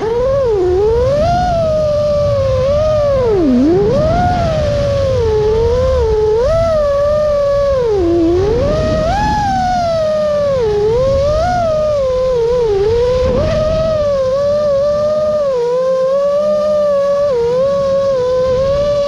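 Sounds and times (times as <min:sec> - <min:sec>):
quadcopter motors whining: 0:00.0 - 0:19.0
wind rushing: 0:00.0 - 0:19.0.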